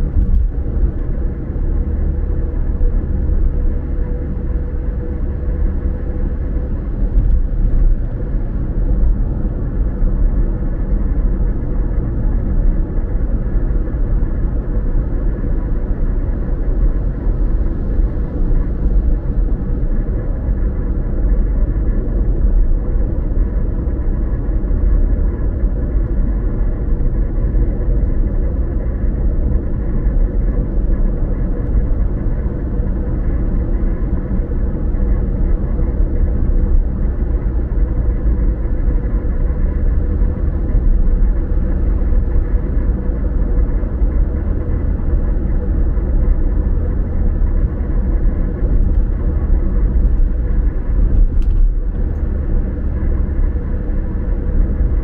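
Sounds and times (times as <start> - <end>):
car engine and tyre rumble: 0.0 - 55.0
faint steady hum: 0.0 - 55.0.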